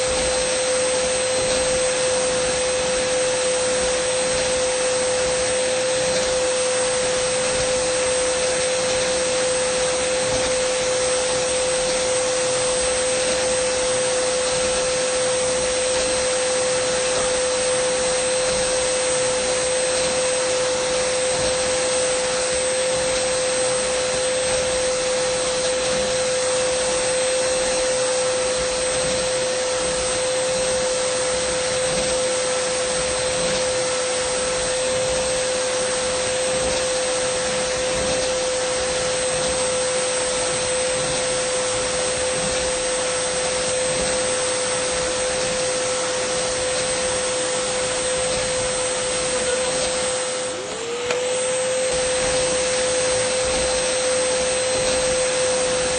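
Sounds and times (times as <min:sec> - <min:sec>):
vacuum cleaner motor whine: 0:00.0 - 0:55.9.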